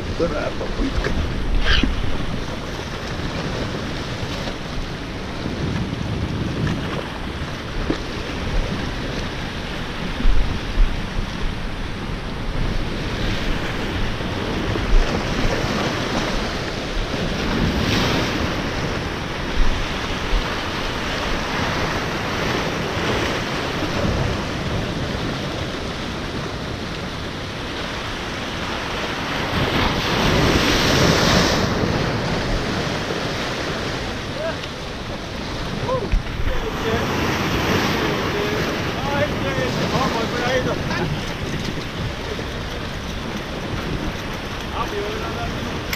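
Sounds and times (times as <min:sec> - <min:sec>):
ocean surf washing over rocks: 0:00.0 - 0:45.9
wind buffeting microphone: 0:00.0 - 0:45.9.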